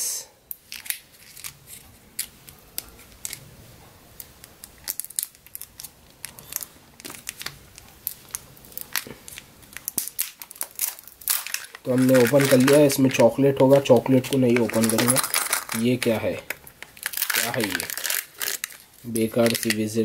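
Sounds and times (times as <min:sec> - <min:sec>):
thin plastic crinkling: 0:00.6 - 0:03.5, 0:04.2 - 0:20.0.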